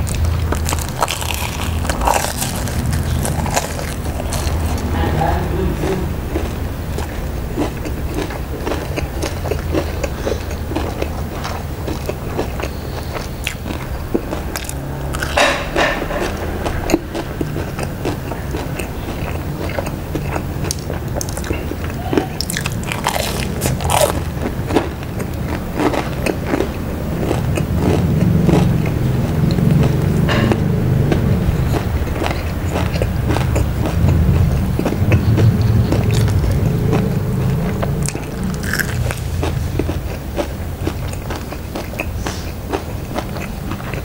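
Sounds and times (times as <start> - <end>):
crunching fried food: 0.0 - 44.0.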